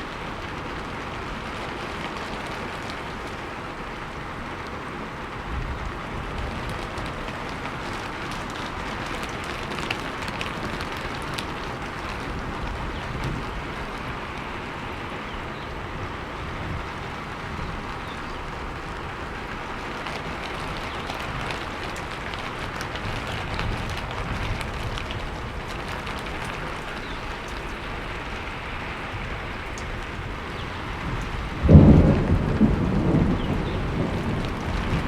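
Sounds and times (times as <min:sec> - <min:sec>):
raindrops ticking: 0:00.0 - 0:35.0
steady rain falling: 0:00.0 - 0:35.0
thunder clap and rumble: 0:05.2 - 0:35.0.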